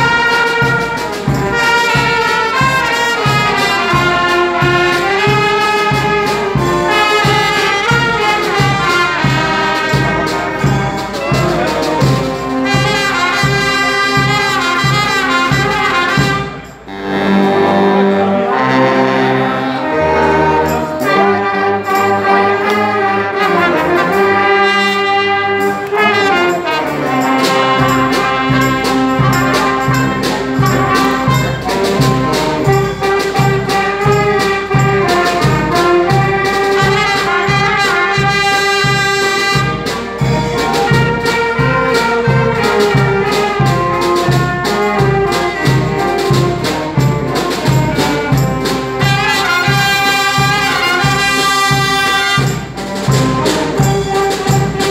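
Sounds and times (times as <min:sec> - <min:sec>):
brass band playing lively tune: 0:00.0 - 0:54.9.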